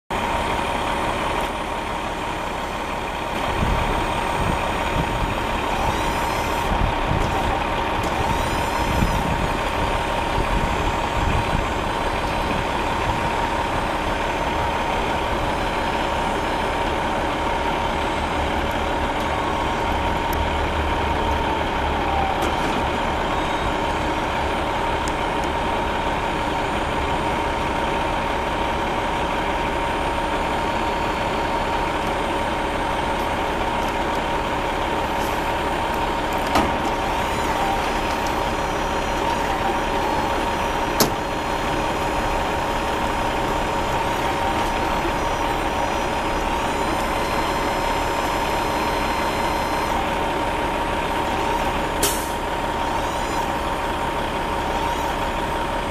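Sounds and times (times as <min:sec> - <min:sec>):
truck engine running: 0:00.1 - 0:55.9.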